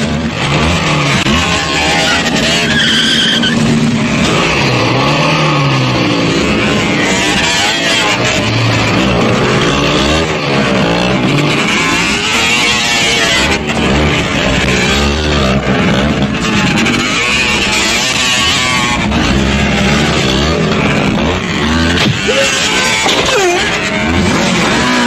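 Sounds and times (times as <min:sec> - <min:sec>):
vehicle engines revving hard: 0:00.0 - 0:25.0.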